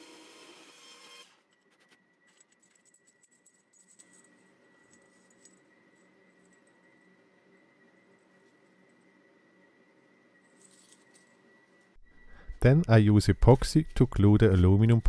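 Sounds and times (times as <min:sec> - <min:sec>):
faint steady tone: 0:01.5 - 0:15.0.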